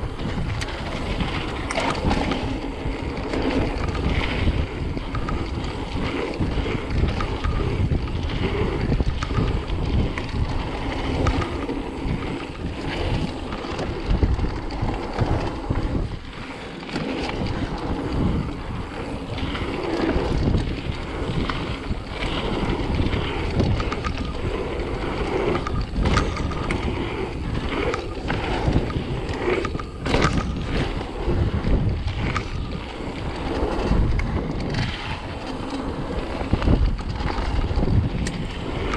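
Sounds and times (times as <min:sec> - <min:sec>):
bike rattling clicks: 0:00.0 - 0:38.9
tyres rumbling: 0:00.0 - 0:38.9
wind buffeting microphone: 0:00.0 - 0:38.9.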